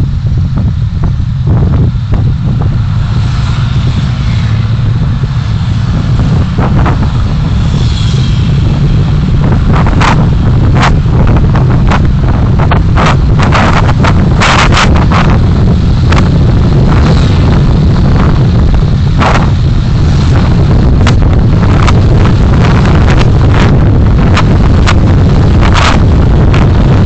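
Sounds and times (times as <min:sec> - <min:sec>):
car driving rumble: 0:00.0 - 0:27.0
wind noise on microphone: 0:00.0 - 0:27.0.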